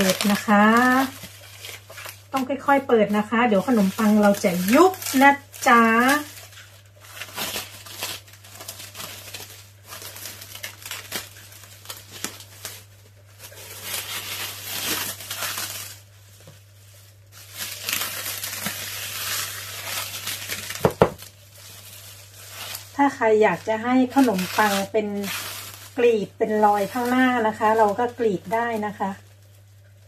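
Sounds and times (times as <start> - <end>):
cling film crinkling: 0.0 - 30.0.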